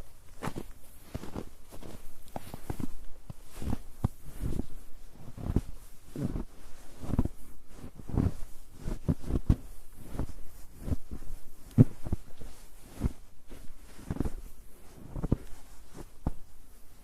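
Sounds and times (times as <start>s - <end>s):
footsteps crunching in snow: 0.0s - 17.0s.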